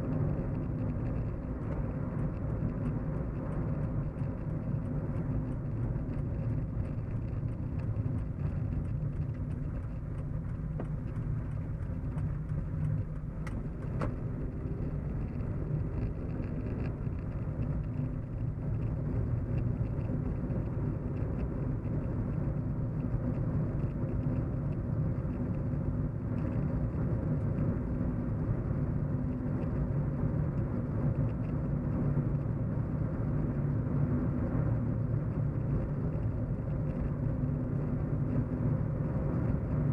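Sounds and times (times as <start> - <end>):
car engine and road hum: 0.0 - 39.9.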